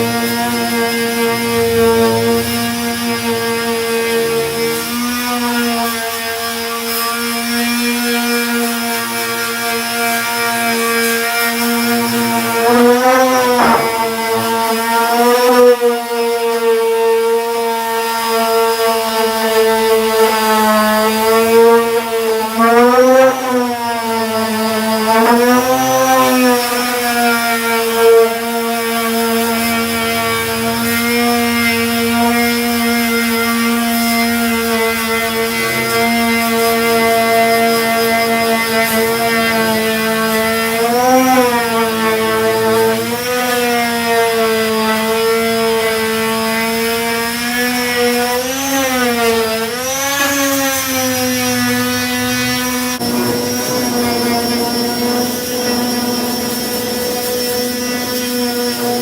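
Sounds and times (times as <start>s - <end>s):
electric sander motor whine: 0.0s - 59.0s.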